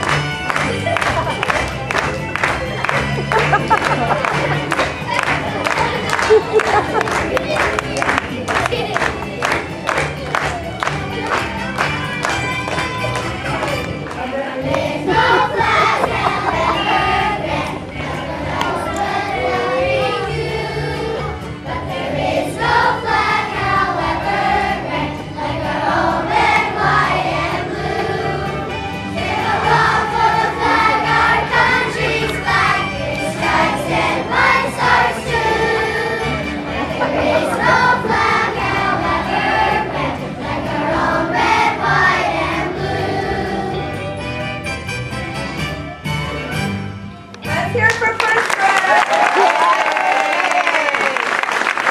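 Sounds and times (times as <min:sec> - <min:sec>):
children's chorus singing: 0:00.0 - 0:11.4, 0:14.2 - 0:44.3
instrumental accompaniment: 0:00.0 - 0:48.3.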